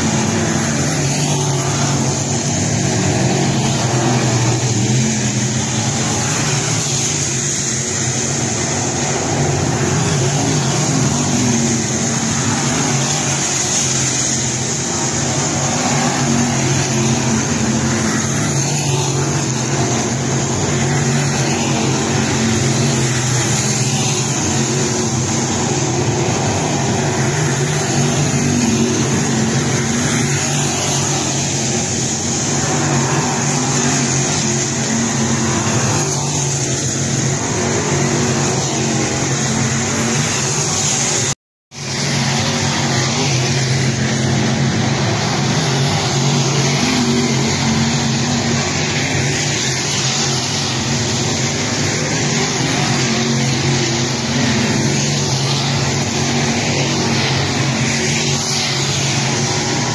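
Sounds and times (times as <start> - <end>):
race car engines roaring: 0.0 - 59.9.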